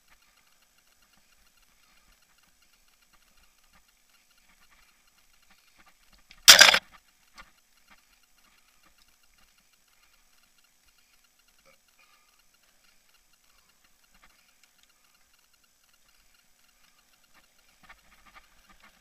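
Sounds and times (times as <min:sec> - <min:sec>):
fast bike ticking: 0:00.0 - 0:19.0.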